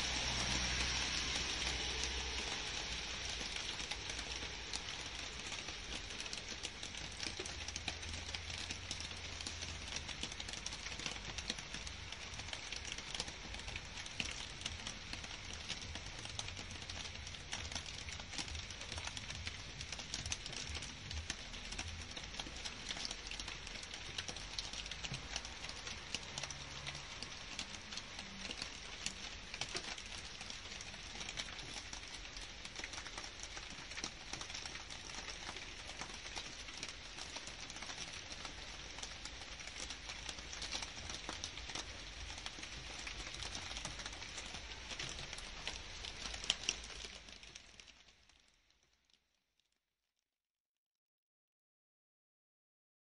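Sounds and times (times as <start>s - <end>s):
rain on leaves: 0.0s - 49.8s.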